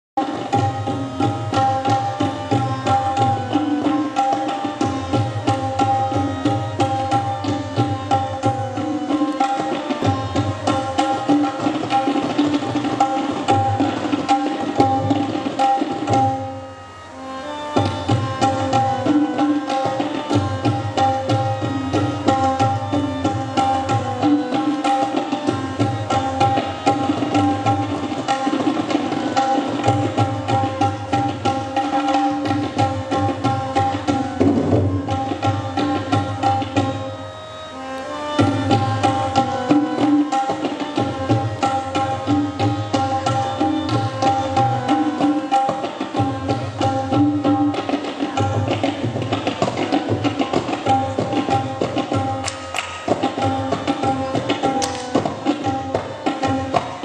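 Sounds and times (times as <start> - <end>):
tabla playing: 0.2 - 57.0.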